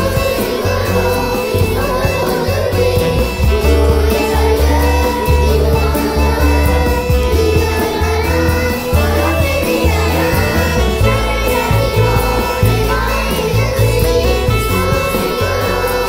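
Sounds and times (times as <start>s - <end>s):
acoustic band playing: 0.0s - 16.0s
young children singing: 0.0s - 16.0s.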